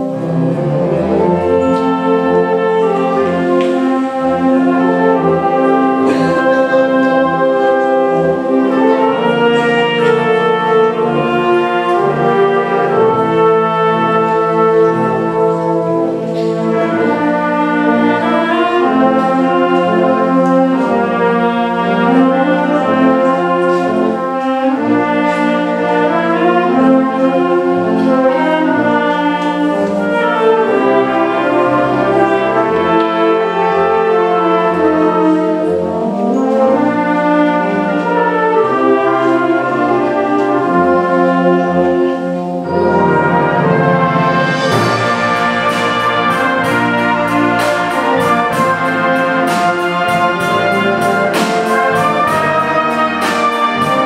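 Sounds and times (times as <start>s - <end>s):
wind band playing brass chords: 0.0s - 54.0s.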